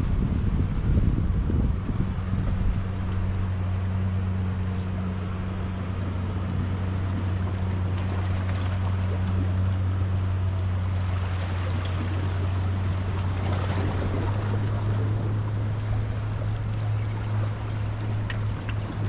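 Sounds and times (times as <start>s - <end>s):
boat engine drone: 0.0s - 19.0s
surf: 0.0s - 19.0s
wind: 0.0s - 19.0s.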